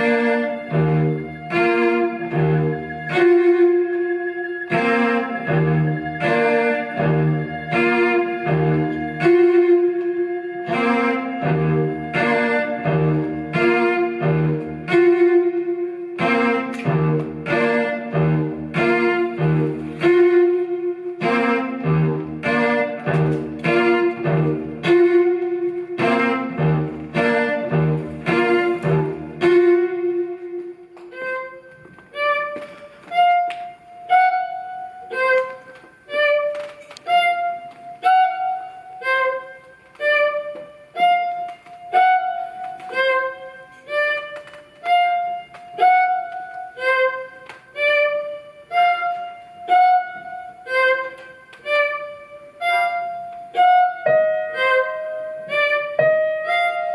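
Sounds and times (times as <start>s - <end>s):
bowed strings playing: 0.0s - 56.9s.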